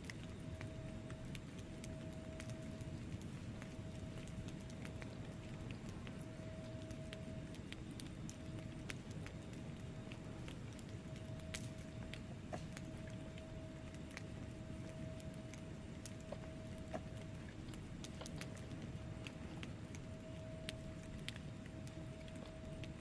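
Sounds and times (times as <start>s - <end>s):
faint steady tone: 0.0s - 23.0s
log fire crackling: 0.0s - 23.0s
low rumble of flame: 0.0s - 23.0s.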